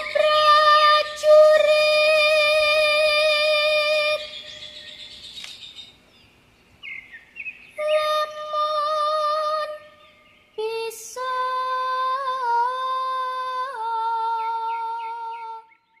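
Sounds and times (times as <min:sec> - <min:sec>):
bird chirps: 0:00.0 - 0:11.2, 0:14.2 - 0:16.0.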